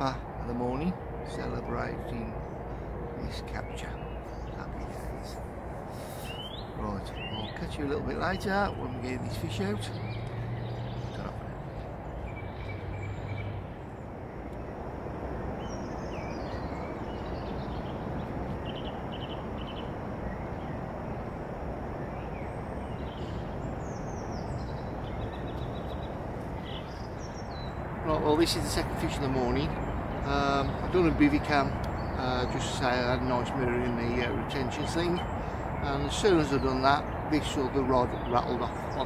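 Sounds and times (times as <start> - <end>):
small birds chirping: 0.0 - 39.0
steady rushing background noise: 0.0 - 39.0.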